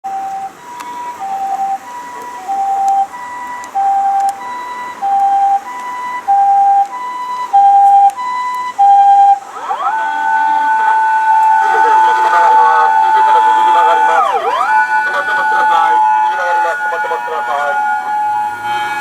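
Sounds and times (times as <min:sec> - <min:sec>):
two-tone ambulance siren: 0:00.0 - 0:19.0.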